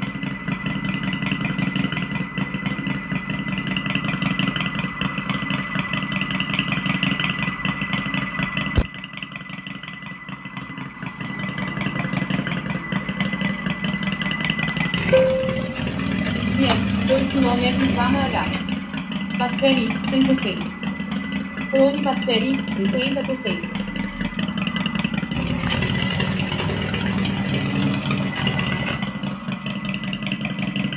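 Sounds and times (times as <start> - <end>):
simulated motorcycle engine idling: 0.0 - 30.9.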